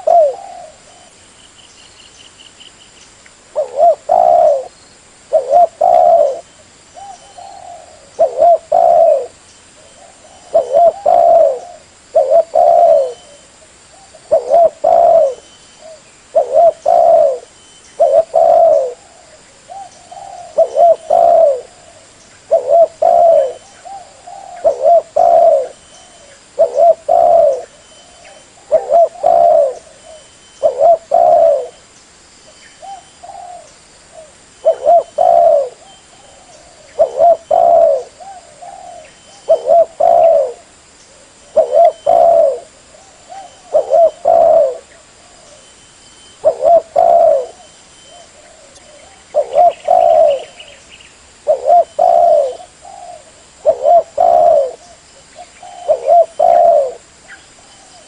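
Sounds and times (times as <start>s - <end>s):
dove cooing: 0.0s - 1.2s, 3.5s - 31.8s, 32.8s - 50.8s, 51.4s - 58.0s.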